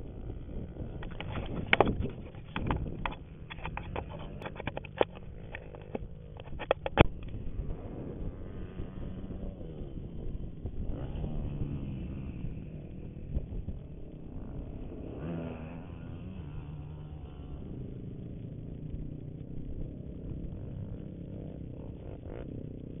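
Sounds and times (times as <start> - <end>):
low engine rumble: 0.0 - 23.0.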